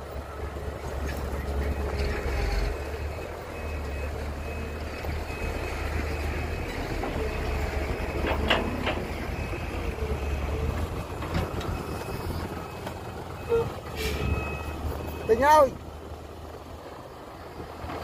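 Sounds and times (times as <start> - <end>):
diesel machinery rumbling: 0.0 - 18.0.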